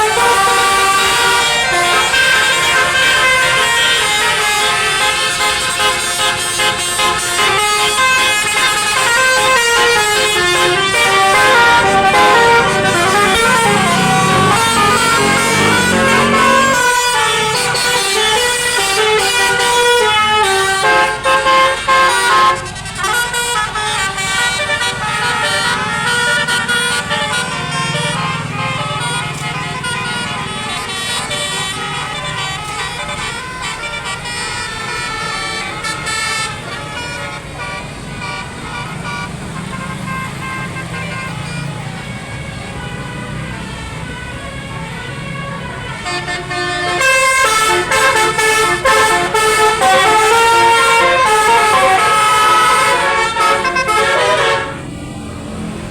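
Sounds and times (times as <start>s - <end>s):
multi-tone bus air horns: 0.0s - 55.8s
bus engines running: 0.0s - 55.9s.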